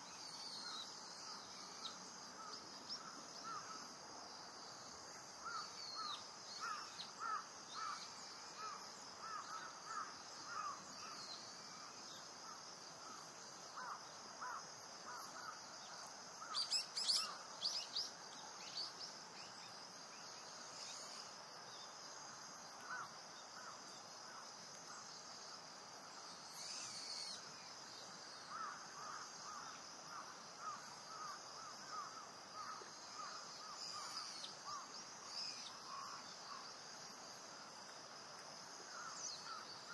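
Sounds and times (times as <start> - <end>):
high insect hum: 0.0 - 39.9.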